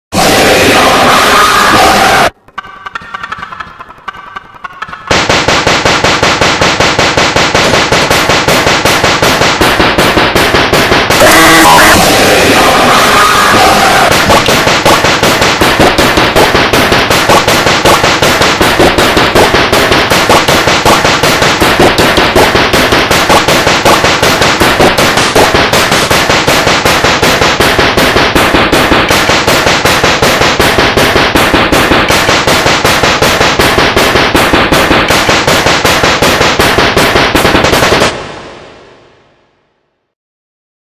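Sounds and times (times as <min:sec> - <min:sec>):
harsh distorted rattling noise: 0:00.2 - 0:39.0.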